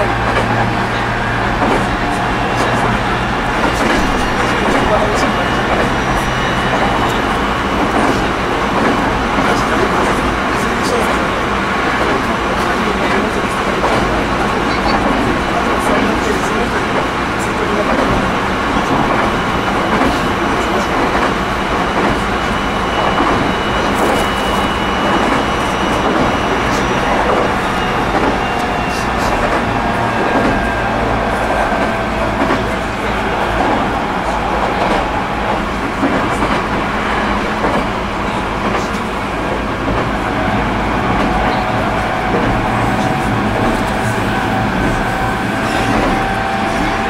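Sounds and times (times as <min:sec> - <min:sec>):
passenger noise: 0:00.0 - 0:47.0
rail clicks: 0:00.0 - 0:47.0
train wheel and rail rumble: 0:00.0 - 0:47.0.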